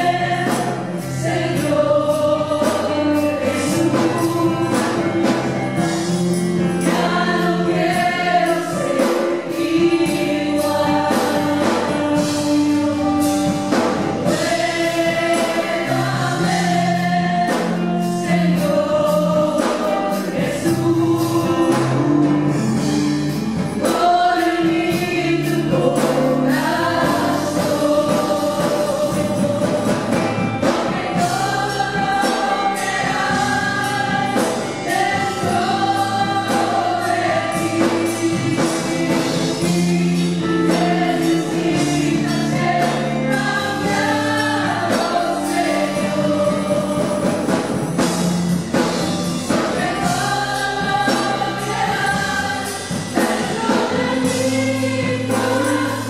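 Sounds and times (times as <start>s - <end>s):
women singing worship song: 0.0s - 56.0s.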